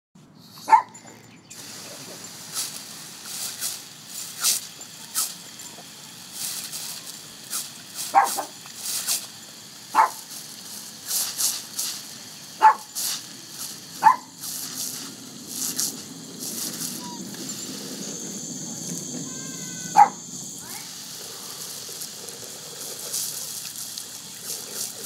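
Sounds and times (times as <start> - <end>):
sharp dog noises: 0.4 - 18.2, 19.2 - 25.0
dog splashing and slurping water: 1.5 - 25.0
hose spray hiss: 1.5 - 25.0.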